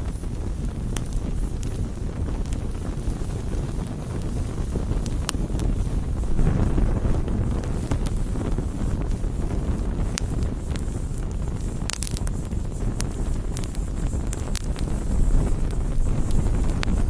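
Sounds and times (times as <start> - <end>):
burning wood crackling and popping: 0.0 - 17.0
low rush of flames: 0.0 - 17.0.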